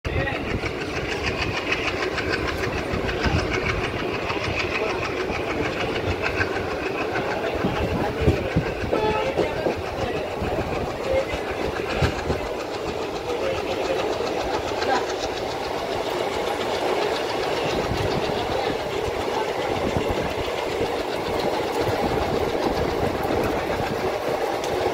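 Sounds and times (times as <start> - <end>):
clickety-clack over rail joints: 0.1 - 24.9
train passing on adjacent track: 0.1 - 24.9
train wheels rumbling on rails: 0.1 - 24.9.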